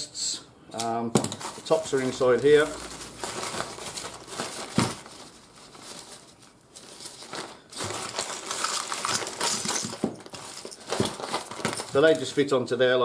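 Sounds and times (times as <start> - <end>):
nylon sack rustling: 1.4 - 12.5.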